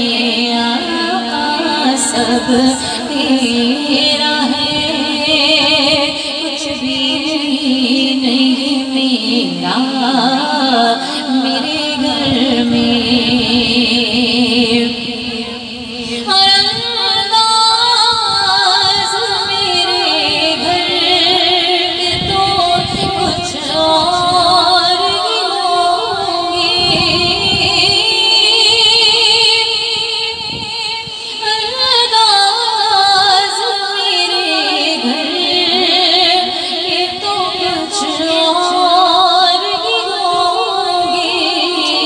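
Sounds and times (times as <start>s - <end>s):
woman singing into microphone: 0.0s - 42.0s.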